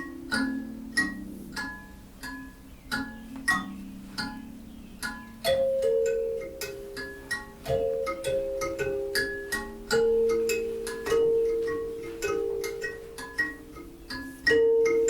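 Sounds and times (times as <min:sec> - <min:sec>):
struck percussion gentle melody: 0:00.0 - 0:15.0.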